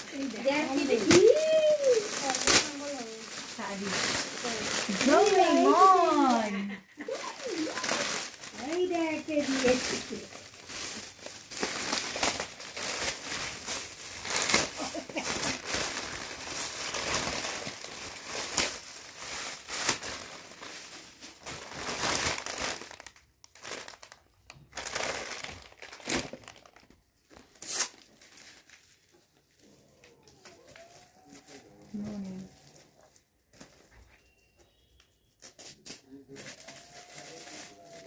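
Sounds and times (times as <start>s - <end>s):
gift wrapping crinkling and tearing: 0.0s - 38.0s.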